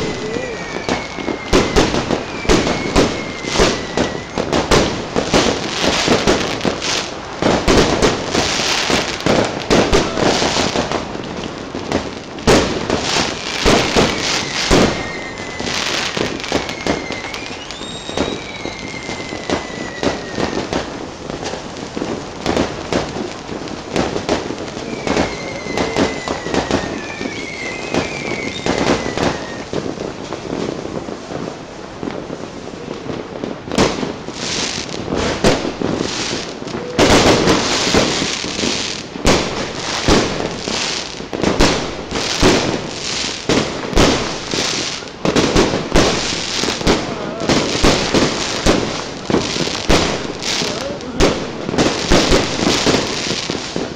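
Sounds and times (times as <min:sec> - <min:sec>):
fireworks bangs and pops: 0:00.0 - 0:53.9
fireworks whistling: 0:00.0 - 0:53.9.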